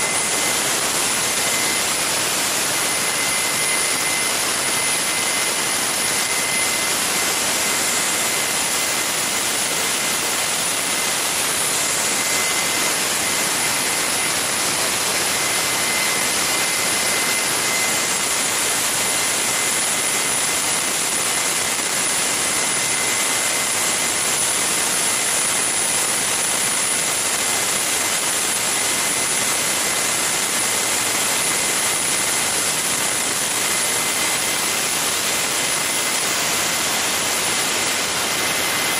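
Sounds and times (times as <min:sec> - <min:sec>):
gas turbine rushing air: 0:00.0 - 0:38.9
turbine high whine: 0:00.0 - 0:38.9.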